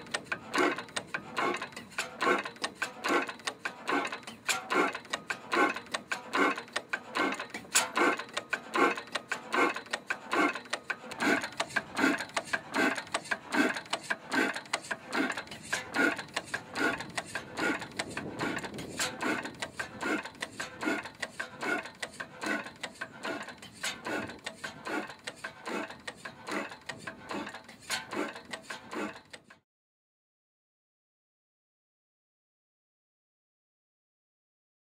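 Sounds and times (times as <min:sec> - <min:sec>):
old engine rhythmic clatter: 0:00.0 - 0:29.6.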